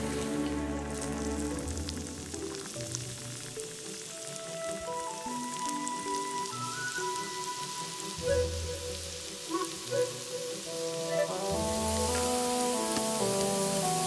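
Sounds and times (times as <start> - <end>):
oil sizzling and crackling: 0.0 - 14.0
slow background music: 0.0 - 14.0.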